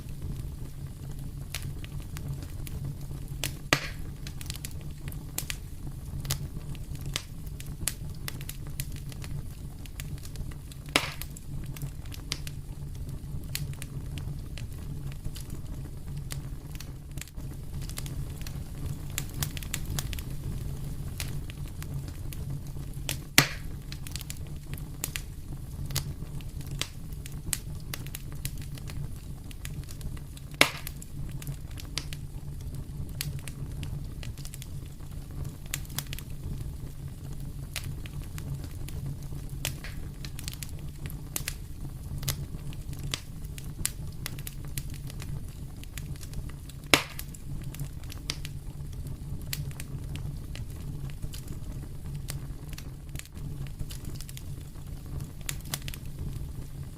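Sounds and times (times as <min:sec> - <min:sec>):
fire crackling: 0:00.0 - 0:56.9
loud sharp pops of fire: 0:00.0 - 0:56.9
low rumble of fire: 0:00.0 - 0:56.9.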